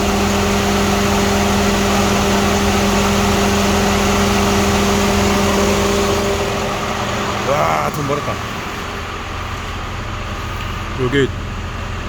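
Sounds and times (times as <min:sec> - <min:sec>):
electric fan humming: 0:00.0 - 0:12.0
truck engine idling: 0:00.0 - 0:12.0.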